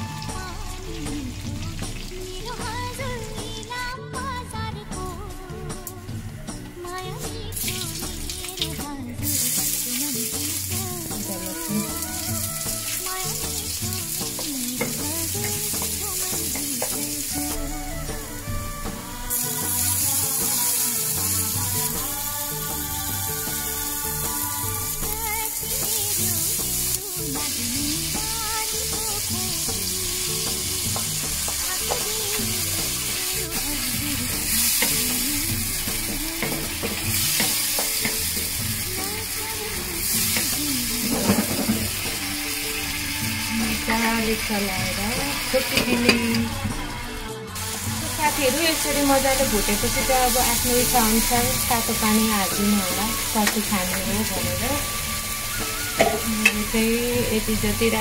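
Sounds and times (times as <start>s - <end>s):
vegetables sizzling in hot oil: 0.0s - 3.8s, 5.0s - 58.0s
background music: 0.0s - 58.0s.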